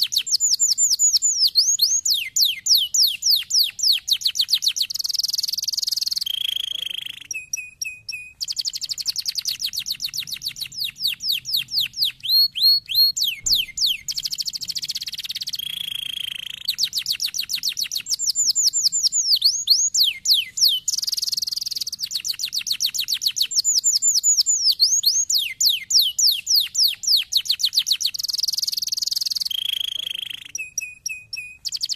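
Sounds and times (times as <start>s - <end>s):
canary singing: 0.0s - 31.9s.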